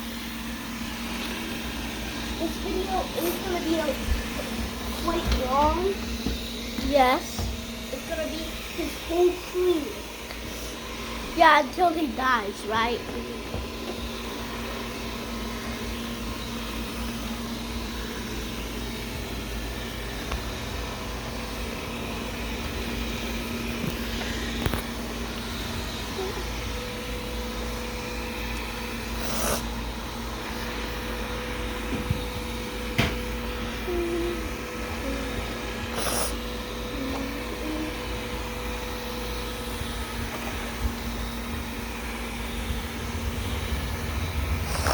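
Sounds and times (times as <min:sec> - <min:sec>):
robot vacuum humming: 0:00.0 - 0:44.9.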